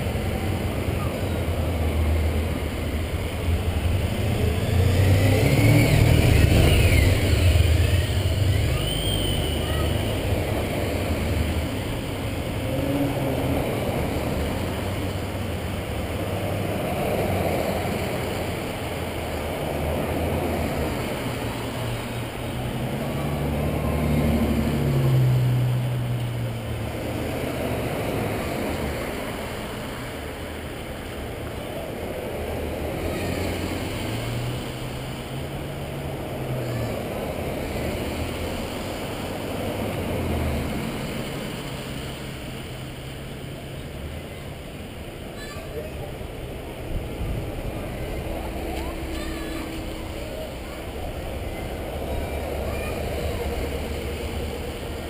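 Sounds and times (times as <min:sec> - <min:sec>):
vehicles driving past: 0:00.0 - 0:55.0.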